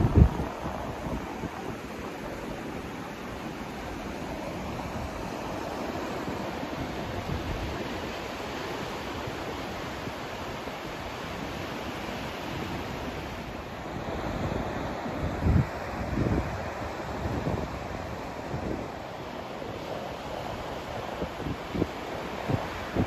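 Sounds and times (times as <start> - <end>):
white noise hiss: 0.0 - 23.0.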